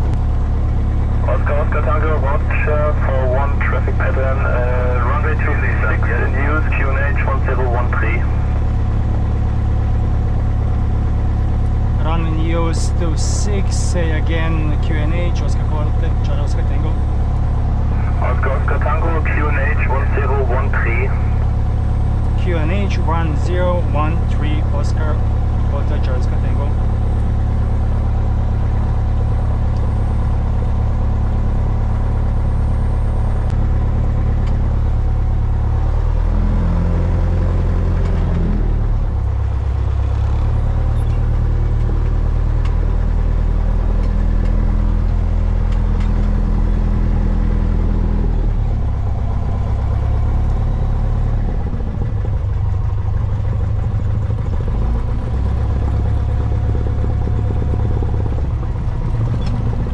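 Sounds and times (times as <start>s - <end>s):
propeller plane engine running: 0.0s - 59.9s.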